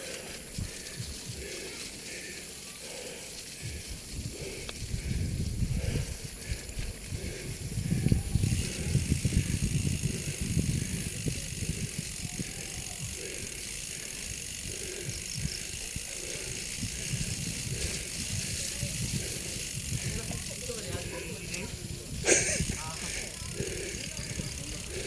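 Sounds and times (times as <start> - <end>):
wind buffeting microphone: 0.0 - 1.7, 2.9 - 25.0
bicycle road noise: 0.0 - 25.0.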